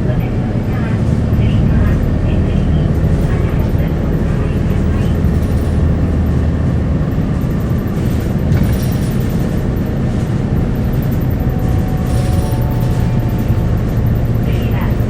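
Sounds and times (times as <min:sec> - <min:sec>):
bus engine and road rumble: 0:00.0 - 0:15.0
faint whine: 0:00.0 - 0:15.0.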